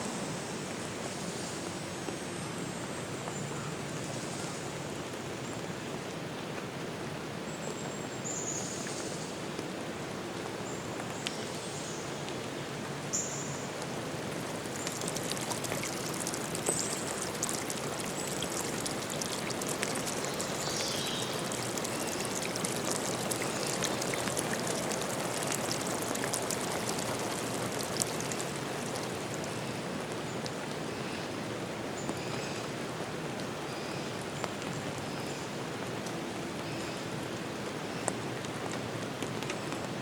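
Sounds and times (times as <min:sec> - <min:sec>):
flowing water: 0:00.0 - 0:40.0.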